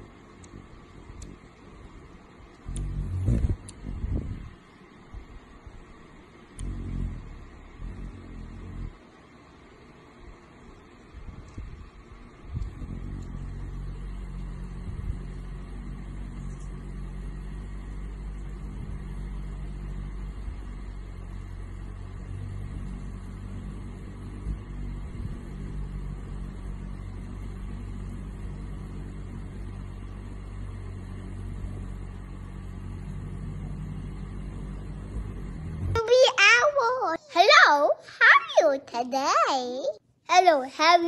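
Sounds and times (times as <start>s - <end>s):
hummingbird wings humming: 0.0s - 37.6s.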